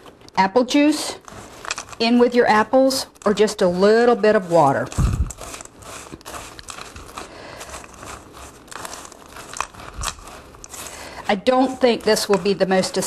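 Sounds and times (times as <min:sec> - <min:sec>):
spatula scraping crunchy mix in bowl: 0:00.0 - 0:13.0.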